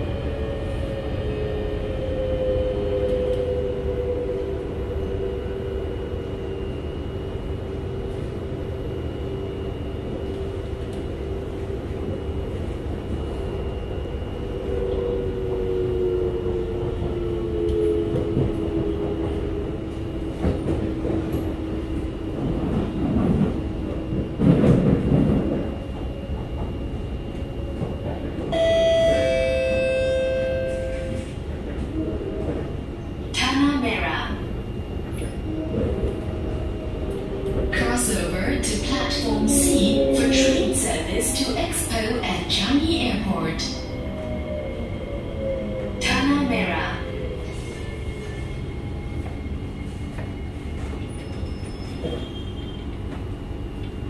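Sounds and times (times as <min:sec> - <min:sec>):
train wheel and track rumble: 0:00.0 - 0:54.0.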